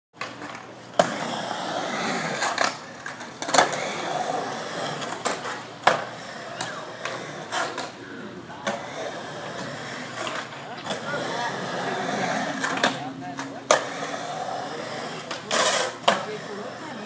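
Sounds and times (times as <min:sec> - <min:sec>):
skateboard wheels rolling on concrete: 0:00.1 - 0:17.0
skateboard clacking on concrete: 0:00.2 - 0:17.0.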